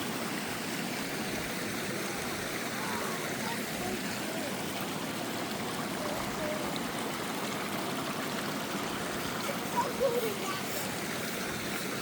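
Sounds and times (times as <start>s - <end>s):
creek running: 0.0s - 12.0s
waterfall rushing: 0.0s - 12.0s.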